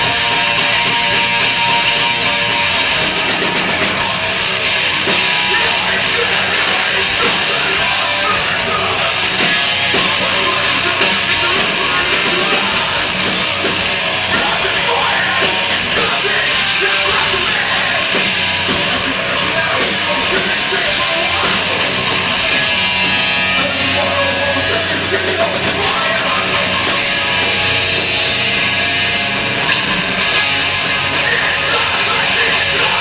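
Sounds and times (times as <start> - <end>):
distorted electric guitars: 0.0 - 33.0
heavy rock band playing: 0.0 - 33.0.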